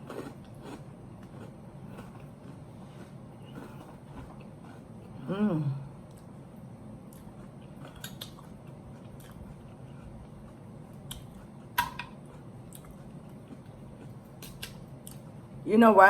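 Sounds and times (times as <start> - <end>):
person chewing salad: 0.0 - 5.3, 6.0 - 15.4.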